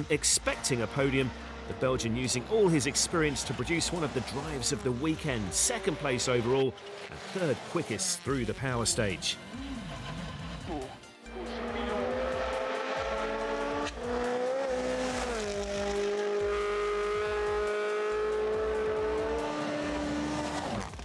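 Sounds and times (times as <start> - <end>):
rally car engine at high revs: 0.0 - 21.0.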